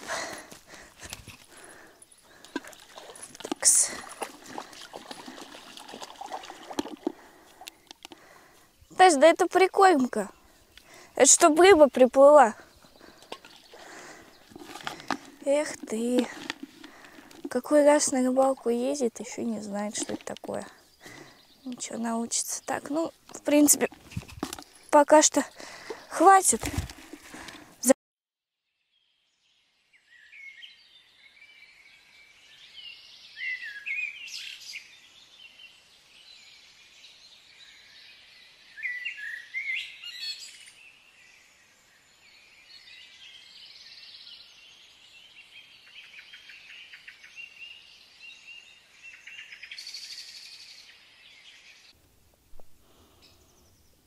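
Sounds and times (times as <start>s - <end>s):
small songbirds chirping: 0.0s - 27.7s, 28.8s - 52.0s, 52.8s - 54.0s.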